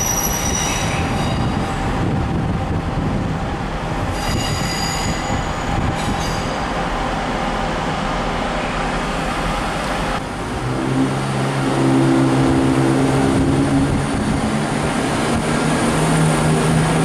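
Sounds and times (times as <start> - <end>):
rail rumble: 0.0 - 17.0
train power unit drone: 0.0 - 17.0.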